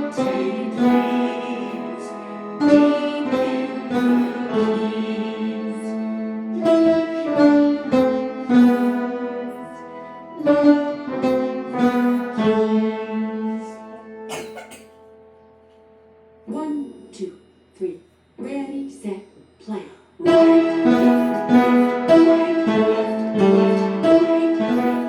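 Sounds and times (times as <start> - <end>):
slow piano melody: 0.0 - 16.5, 20.3 - 25.0.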